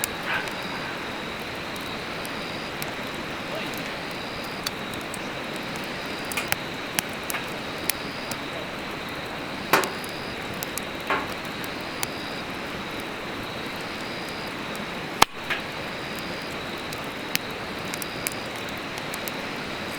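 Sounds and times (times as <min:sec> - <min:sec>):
fire crackling and popping: 0:00.0 - 0:19.9
firewood burning in fire pit: 0:00.0 - 0:19.9.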